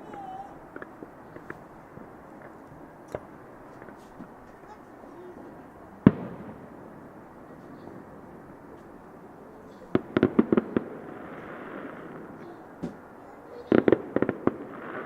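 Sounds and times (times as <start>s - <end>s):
background rumble: 0.0s - 15.0s
fireworks crackling bangs: 0.0s - 15.0s.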